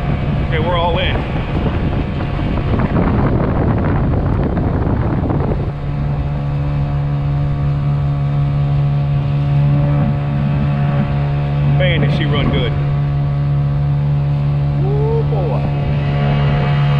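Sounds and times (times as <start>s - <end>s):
small outboard engine running: 0.0s - 16.9s
wind and water rushing: 0.0s - 16.9s.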